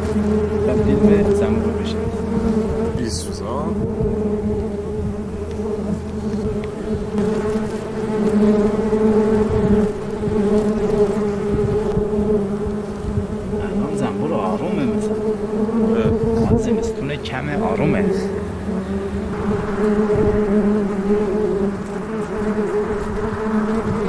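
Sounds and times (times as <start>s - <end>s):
bees buzzing: 0.0s - 24.0s
single bees whizzing past: 3.7s - 24.0s.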